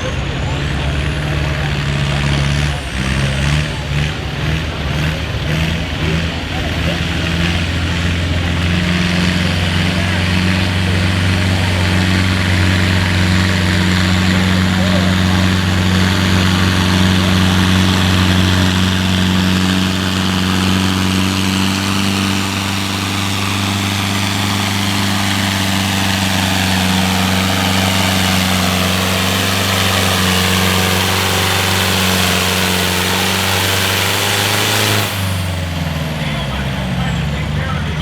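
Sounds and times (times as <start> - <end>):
tractor diesel engine running hard: 0.0 - 38.0.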